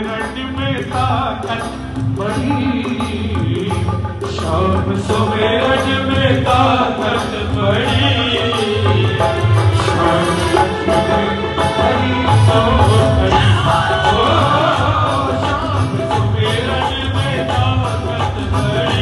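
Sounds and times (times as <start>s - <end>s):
person singing devotional song: 0.0s - 19.0s.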